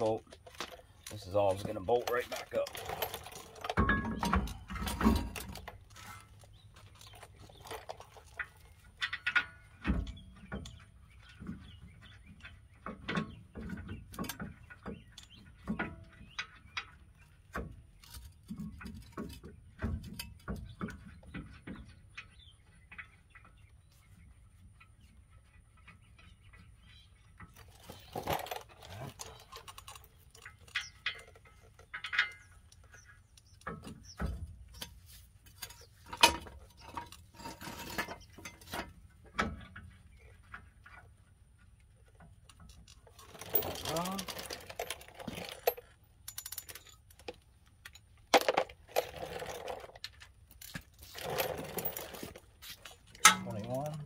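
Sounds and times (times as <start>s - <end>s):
light metal clicks and knocks: 0.0s - 23.7s, 24.7s - 54.0s.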